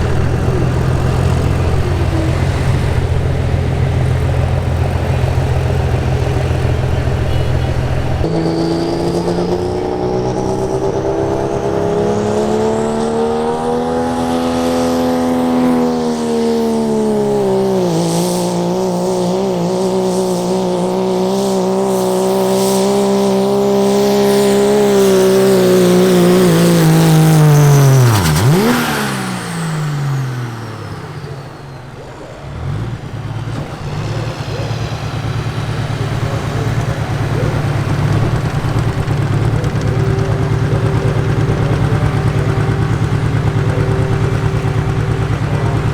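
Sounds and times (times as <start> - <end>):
diesel truck engine at full throttle: 0.0 - 45.9.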